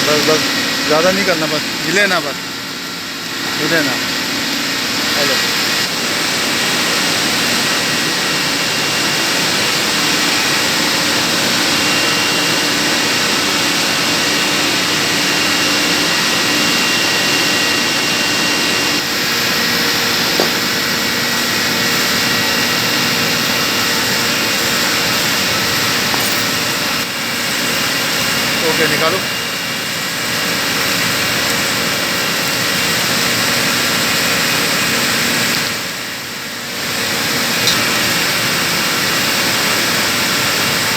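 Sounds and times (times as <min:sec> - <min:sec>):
plant-room machinery running: 0:00.0 - 0:40.9.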